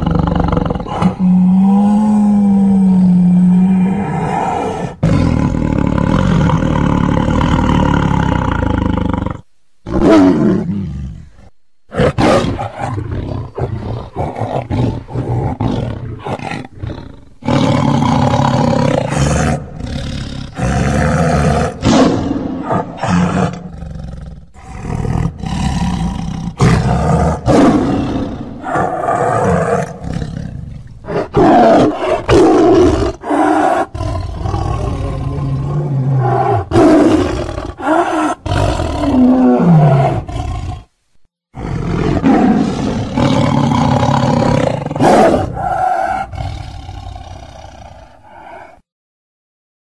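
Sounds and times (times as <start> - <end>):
tiger roaring and growling: 0.0 - 40.9, 41.6 - 48.8.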